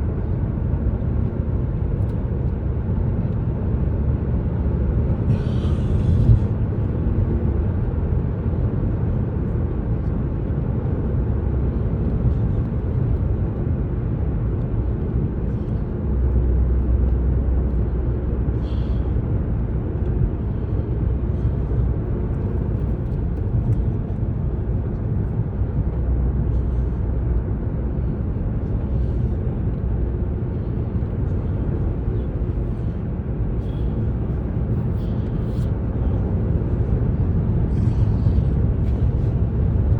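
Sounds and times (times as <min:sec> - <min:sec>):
car road and engine noise: 0:00.0 - 0:39.9
low drone: 0:03.7 - 0:39.9.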